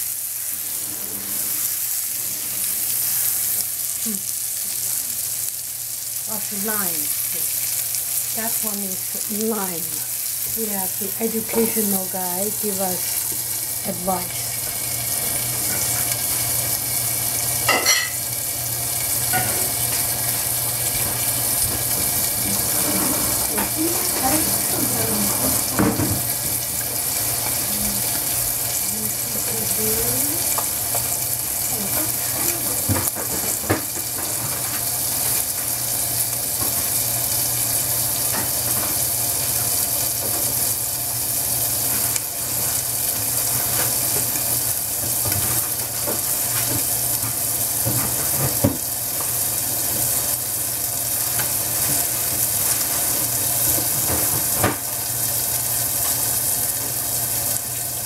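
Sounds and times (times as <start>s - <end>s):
chicken sizzling in pan: 0.0s - 58.0s.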